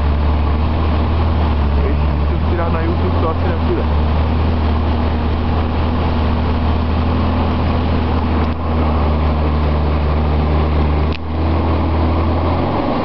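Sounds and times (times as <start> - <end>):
car engine running under load: 0.0 - 13.0.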